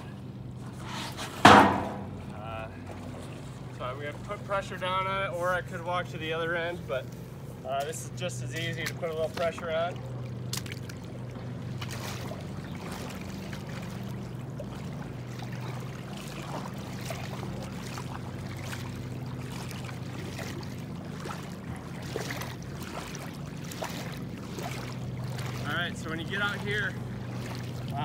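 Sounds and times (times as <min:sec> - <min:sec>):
steady low hum: 0:00.0 - 0:28.0
water sloshing and splashing: 0:00.0 - 0:28.0.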